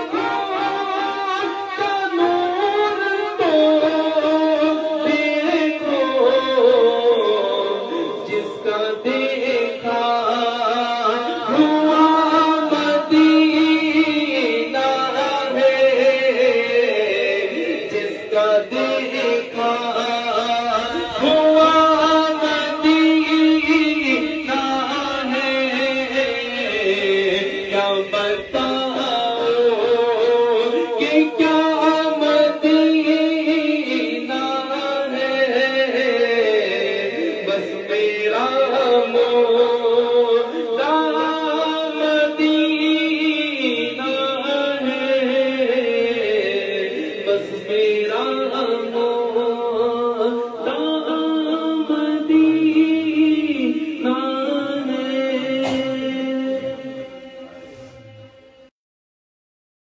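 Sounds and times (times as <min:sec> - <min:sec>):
man singing into microphone: 0:00.0 - 0:58.7.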